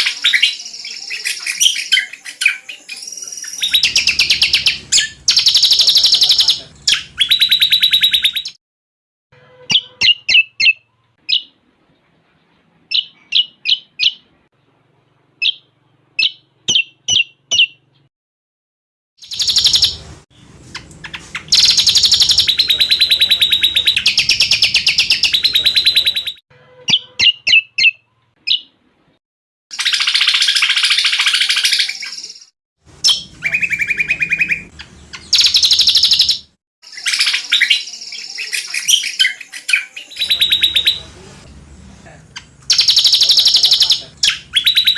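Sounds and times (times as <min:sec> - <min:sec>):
bird chirps: 0:00.0 - 0:08.6, 0:09.6 - 0:14.4, 0:15.4 - 0:18.1, 0:19.2 - 0:20.1, 0:20.7 - 0:28.8, 0:29.7 - 0:41.1, 0:42.4 - 0:44.9.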